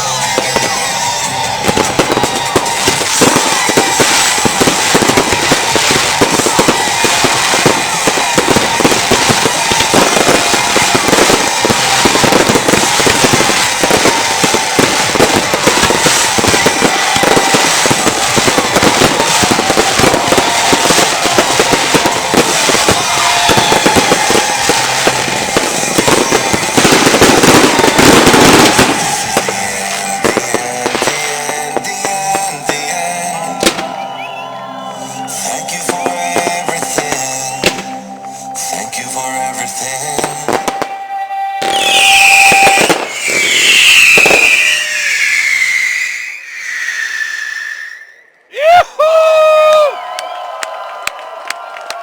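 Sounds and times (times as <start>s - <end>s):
crackling firework shots: 0.0s - 34.0s, 35.8s - 38.0s, 41.6s - 47.7s
firecracker bangs: 0.0s - 34.0s, 35.3s - 38.0s, 41.6s - 46.6s.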